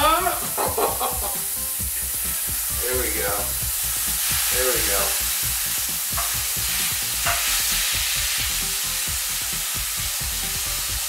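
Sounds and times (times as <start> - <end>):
noodles sizzling in a hot pan: 0.0 - 11.0.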